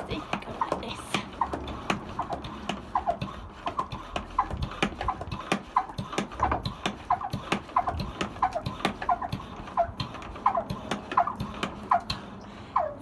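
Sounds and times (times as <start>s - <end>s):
hand pump squeaking and knocking: 0.0s - 13.0s.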